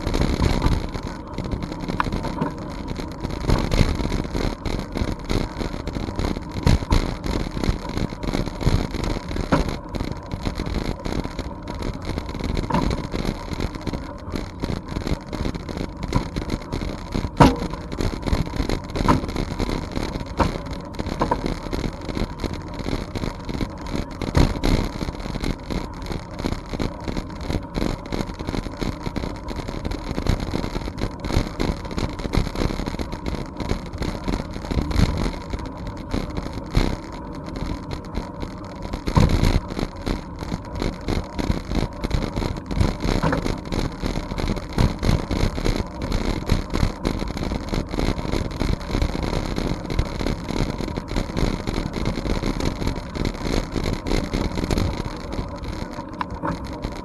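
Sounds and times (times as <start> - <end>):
bike rattles and knocks: 0.0 - 57.0.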